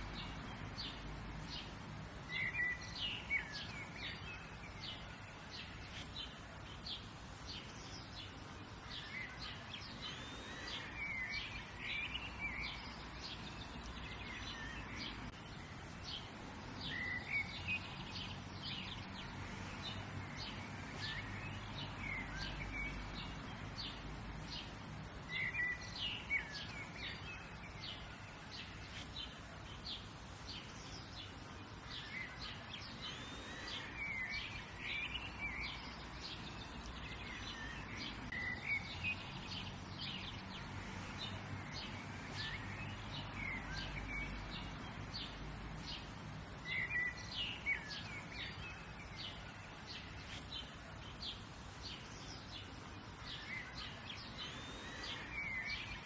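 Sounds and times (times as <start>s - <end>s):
birds singing and chirping: 0.0s - 56.0s
faint background noise: 0.0s - 56.0s.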